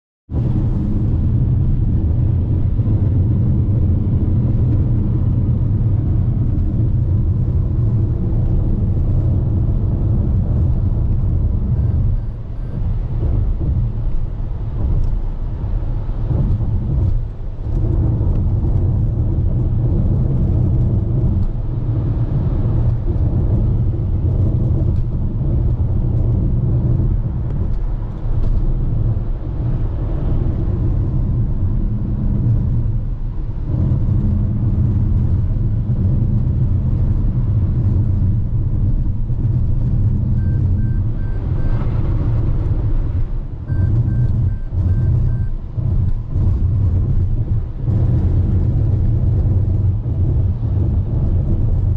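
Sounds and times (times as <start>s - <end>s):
car tyres and engine rumble: 0.3s - 51.9s.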